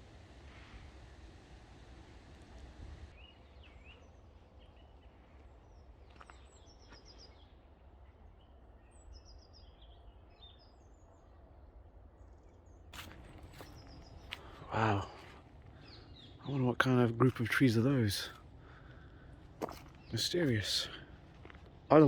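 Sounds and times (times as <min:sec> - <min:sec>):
low background rumble: 0:00.0 - 0:09.1, 0:10.8 - 0:22.0
small birds chirping: 0:03.1 - 0:11.6, 0:12.2 - 0:22.0.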